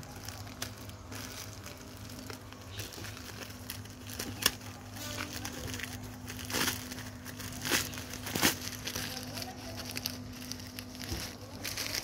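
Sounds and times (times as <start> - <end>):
plastic bag crinkling and tearing: 0.0 - 12.0.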